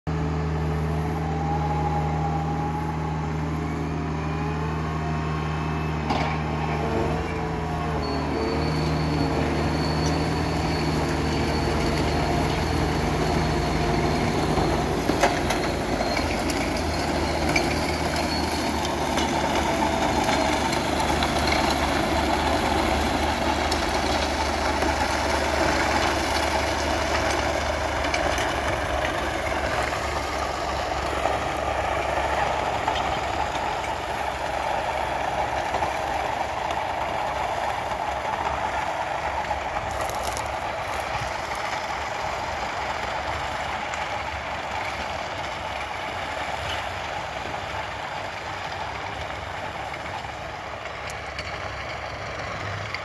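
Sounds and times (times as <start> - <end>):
tractor diesel engine running: 0.1 - 53.0
spreader beaters churning: 0.2 - 53.0.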